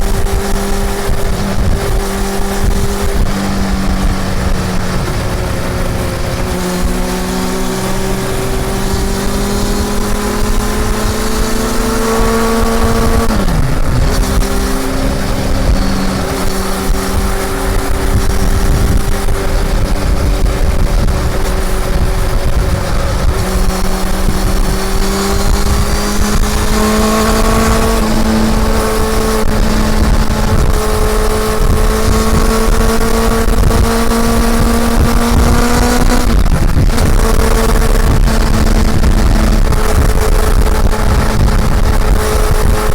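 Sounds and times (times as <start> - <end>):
motorcycle engine revving: 0.0 - 42.9
wind on microphone: 0.0 - 42.9.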